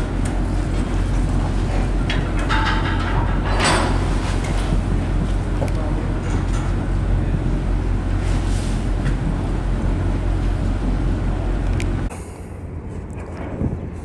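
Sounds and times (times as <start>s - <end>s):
ferry engines droning: 0.0s - 14.0s
wind: 0.0s - 14.0s.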